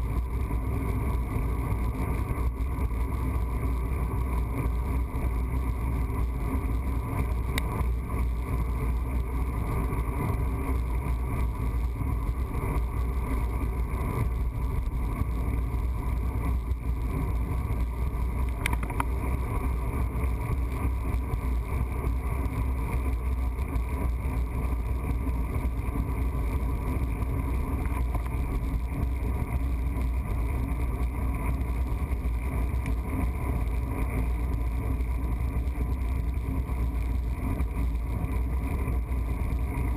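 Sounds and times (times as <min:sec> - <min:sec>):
bicycle tyres on paved road: 0:00.0 - 0:39.9.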